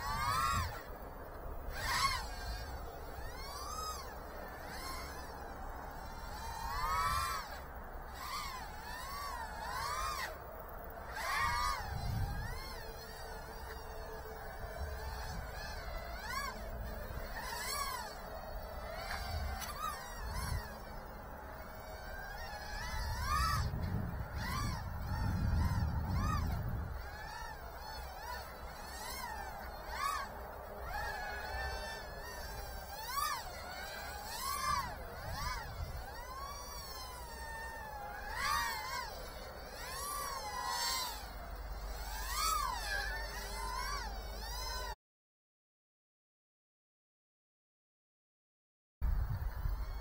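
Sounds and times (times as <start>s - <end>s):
small drone motors whining: 0.0s - 45.0s, 49.0s - 50.0s.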